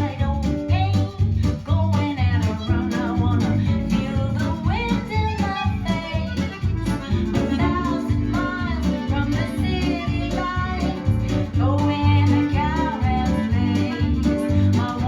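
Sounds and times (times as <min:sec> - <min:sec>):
folk music over loudspeakers: 0:00.0 - 0:15.0.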